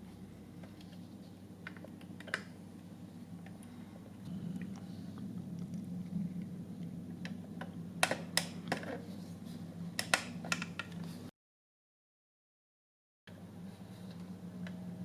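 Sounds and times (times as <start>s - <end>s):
steady low hum: 0.0s - 11.3s, 13.3s - 15.0s.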